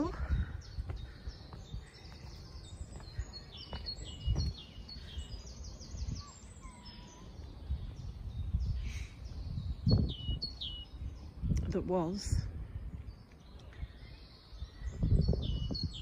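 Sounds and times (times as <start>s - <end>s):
songbirds singing: 0.0s - 16.0s
wind rumble: 0.0s - 16.0s.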